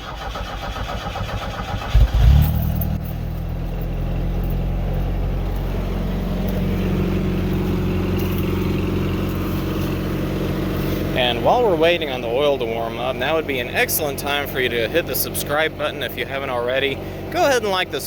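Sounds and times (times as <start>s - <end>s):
pickup engine idling: 0.0s - 18.0s.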